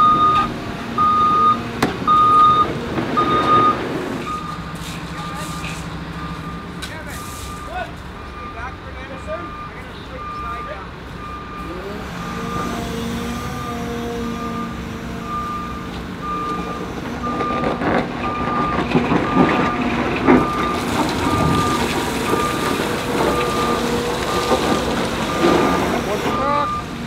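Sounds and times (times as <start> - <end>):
backup alarm beeping: 0.0 - 12.8, 14.6 - 27.0.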